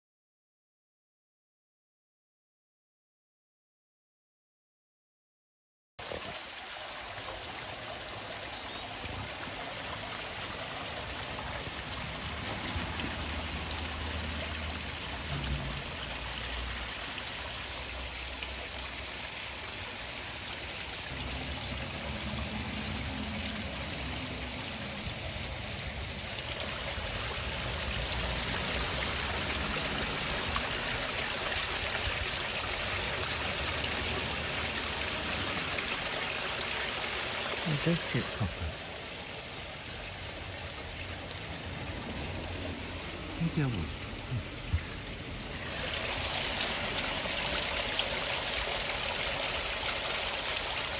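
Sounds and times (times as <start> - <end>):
water pouring and splashing on rocks: 6.0 - 50.9.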